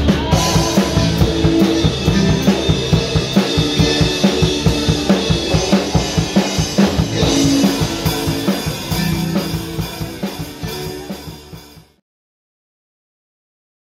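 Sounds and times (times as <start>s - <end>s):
drum kit beat: 0.0s - 12.0s
rock guitars: 0.0s - 12.0s.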